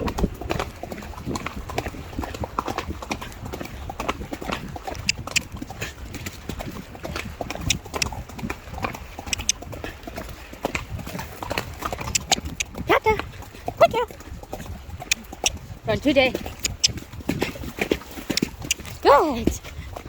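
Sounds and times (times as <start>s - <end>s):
horse hoofbeats: 0.0s - 20.0s.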